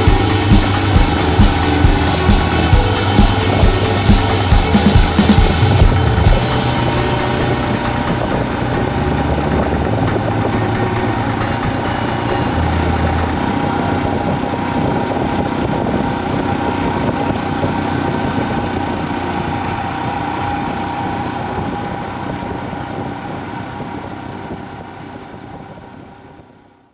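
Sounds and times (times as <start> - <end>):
road noise: 0.0 - 26.7
motorcycle engine cruising: 0.0 - 26.8.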